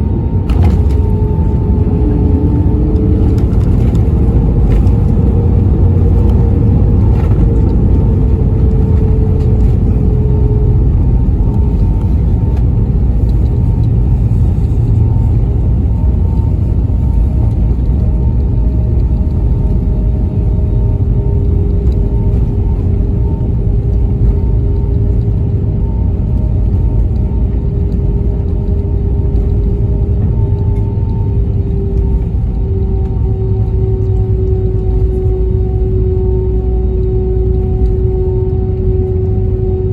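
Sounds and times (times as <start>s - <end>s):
airliner cabin rumble: 0.0s - 39.9s
faint humming tone: 0.0s - 39.9s.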